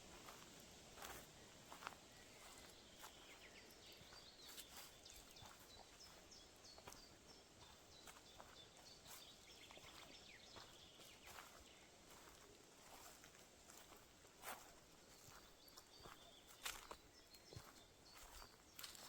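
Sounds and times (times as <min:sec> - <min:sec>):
soft steady hiss: 0:00.0 - 0:15.8
faint songbird chirping: 0:00.0 - 0:19.0.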